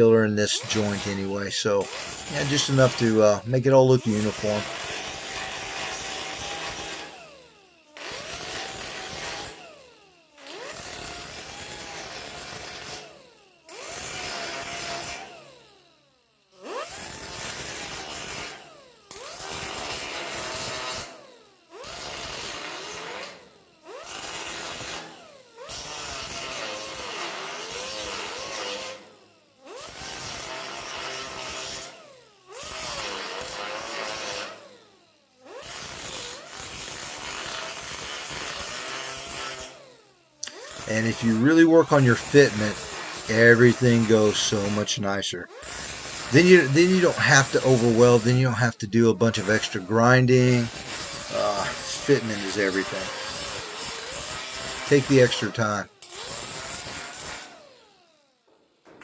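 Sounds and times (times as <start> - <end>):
air grinder whining: 0.0 - 58.2.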